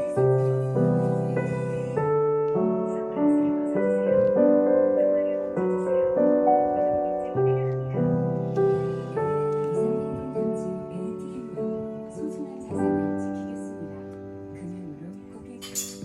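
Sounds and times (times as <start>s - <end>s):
gentle piano chords: 0.0s - 16.0s.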